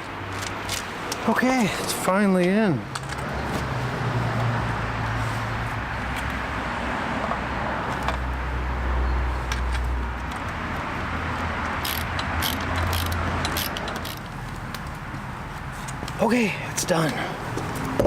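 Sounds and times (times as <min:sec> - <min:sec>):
low rumble of engine or traffic: 0:00.0 - 0:18.0.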